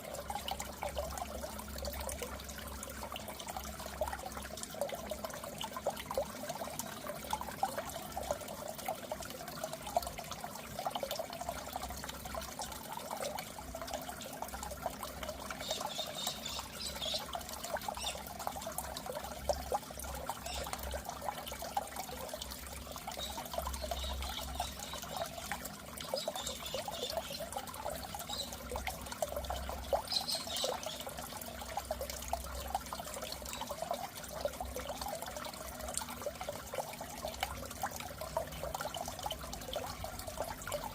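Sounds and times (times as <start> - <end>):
aquarium water trickling and bubbling: 0.0 - 40.9.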